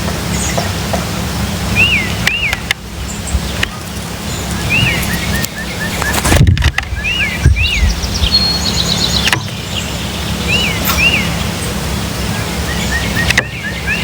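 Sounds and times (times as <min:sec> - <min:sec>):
distant traffic hum: 0:00.0 - 0:14.0
songbirds calling: 0:00.0 - 0:14.0.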